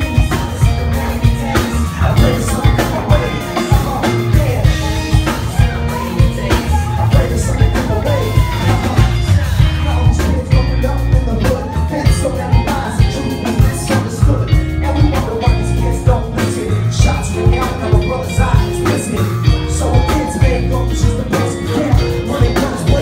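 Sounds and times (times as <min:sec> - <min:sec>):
bass guitar: 0:00.0 - 0:23.0
drum kit playing a steady beat: 0:00.0 - 0:23.0
electric guitar: 0:00.0 - 0:23.0
person singing into a microphone: 0:00.0 - 0:23.0.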